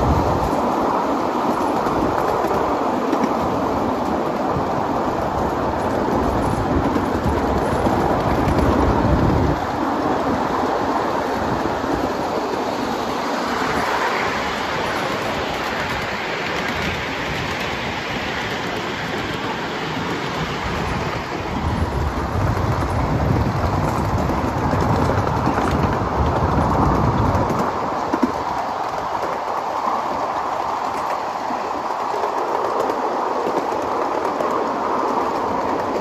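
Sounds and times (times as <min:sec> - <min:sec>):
train wheels rolling on rails: 0:00.0 - 0:36.0.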